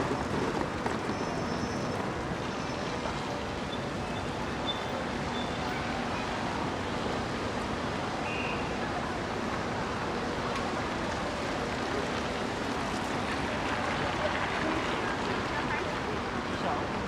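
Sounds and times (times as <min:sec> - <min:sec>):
city street ambience: 0:00.0 - 0:17.0.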